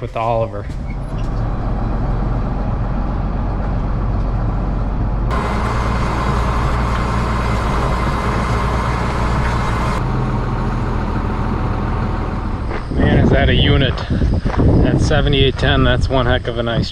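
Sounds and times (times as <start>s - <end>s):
tractor diesel engine running: 0.2s - 14.6s.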